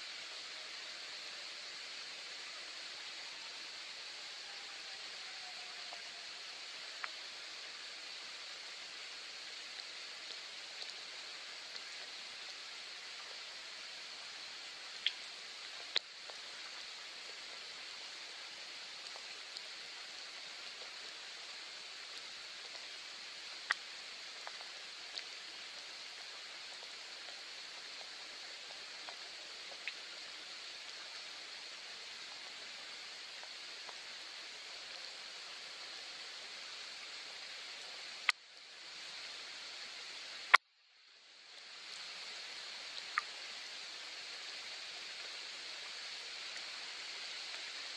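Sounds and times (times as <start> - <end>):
soft rain hiss: 0.0 - 47.9.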